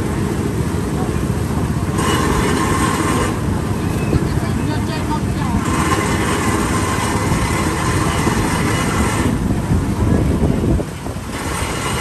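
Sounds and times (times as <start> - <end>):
motor vehicle running: 0.0 - 12.0.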